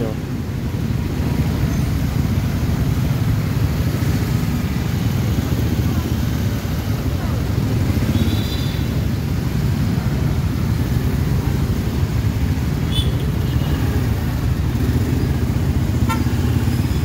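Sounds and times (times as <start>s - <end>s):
motorcycle engine and road noise: 0.0s - 17.0s.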